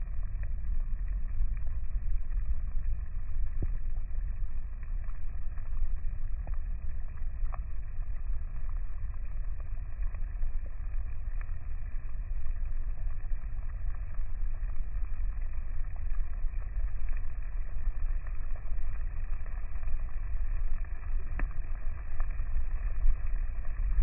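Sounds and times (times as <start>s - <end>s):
faint scattered ticks: 0.0s - 24.0s.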